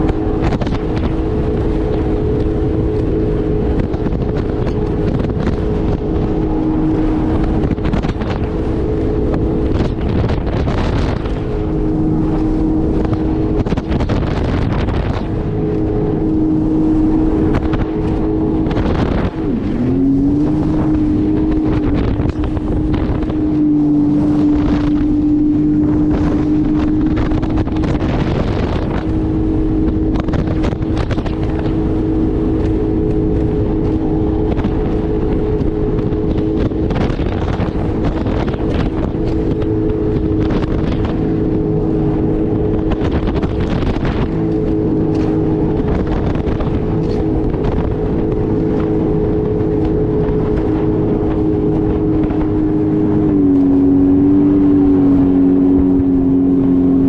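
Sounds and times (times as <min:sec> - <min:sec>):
jet ski engine: 0:00.0 - 0:57.0
wind buffeting microphone: 0:00.0 - 0:57.0.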